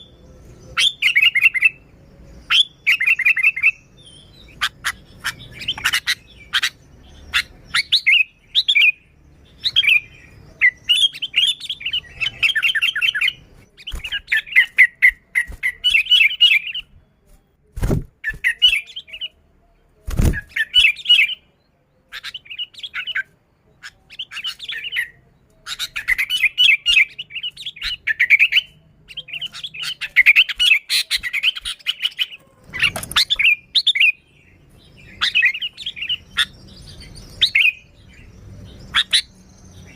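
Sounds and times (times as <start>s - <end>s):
bird chattering and warbling: 0.0s - 17.0s, 17.8s - 19.4s, 20.1s - 39.9s.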